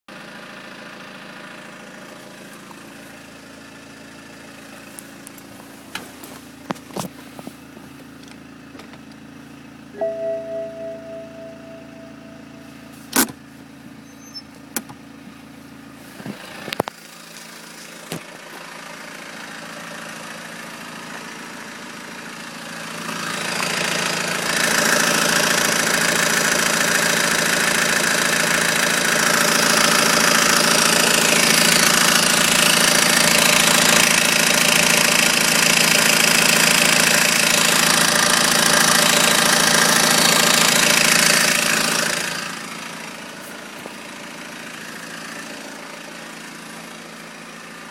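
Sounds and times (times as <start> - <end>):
diesel engine idling: 0.1 - 47.9.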